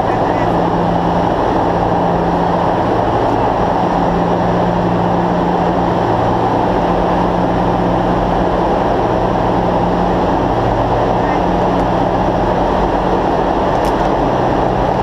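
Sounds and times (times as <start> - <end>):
constant low hum: 0.0 - 15.0
jet cabin engine and airflow rush: 0.0 - 15.0.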